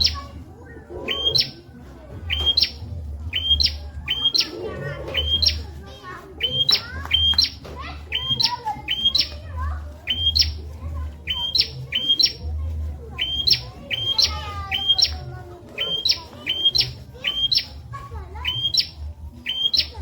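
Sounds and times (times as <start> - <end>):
prinia chirping: 0.0 - 20.0.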